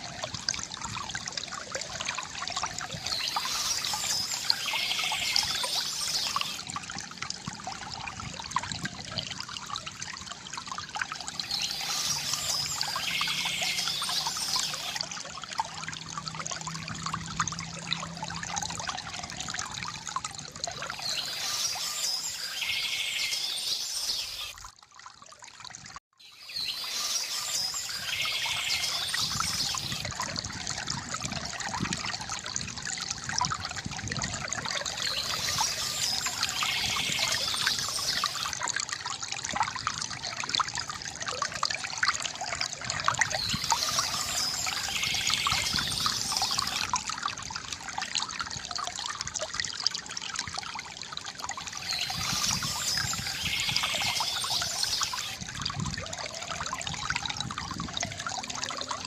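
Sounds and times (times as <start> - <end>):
fountain water trickling into basin: 0.0 - 59.0.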